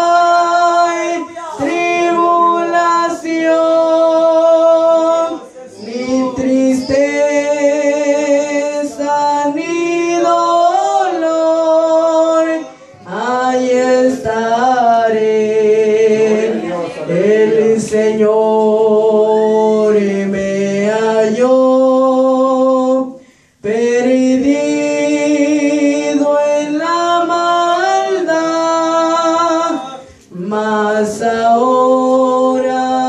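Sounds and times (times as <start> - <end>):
boy singing a hymn: 0.0 - 33.0.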